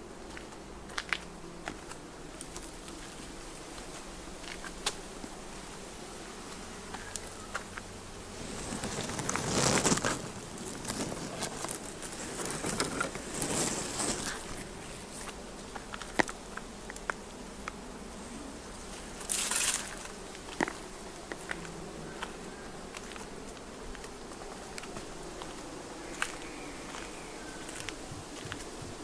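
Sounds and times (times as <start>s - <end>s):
insects buzzing: 0.0s - 29.0s
crunching footsteps: 0.2s - 5.4s, 6.5s - 17.8s, 18.9s - 29.0s.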